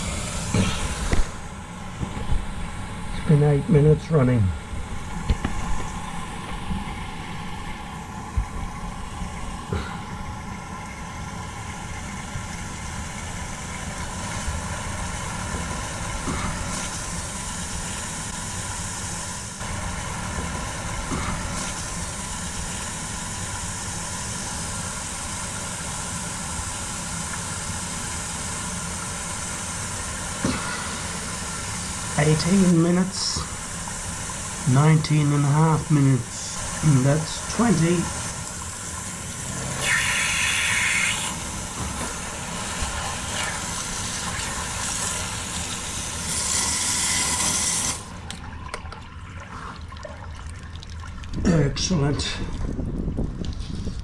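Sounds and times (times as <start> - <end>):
water rushing down a drainpipe: 9.3 - 53.7.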